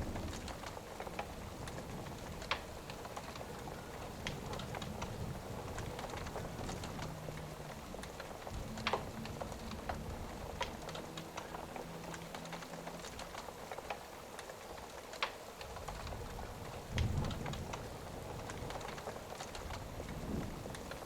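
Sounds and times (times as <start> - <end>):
rain: 0.0 - 21.0
wood fire crackling: 0.0 - 21.0.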